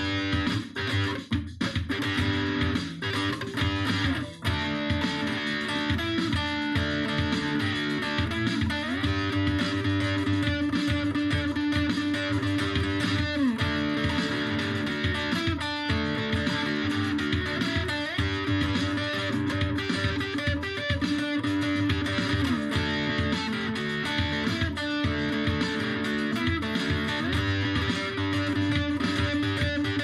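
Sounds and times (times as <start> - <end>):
sliding guitar instrumental music: 0.0 - 30.0.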